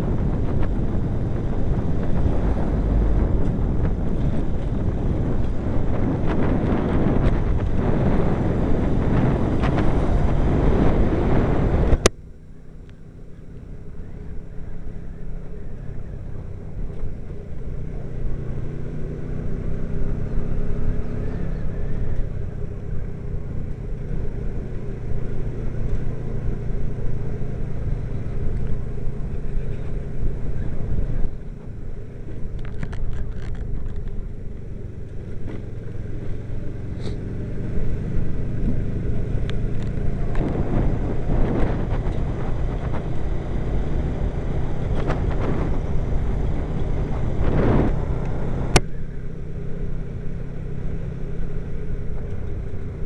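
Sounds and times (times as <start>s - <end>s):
wind rushing over microphone: 0.0s - 12.2s, 15.6s - 53.0s
road noise rumble: 0.0s - 53.0s.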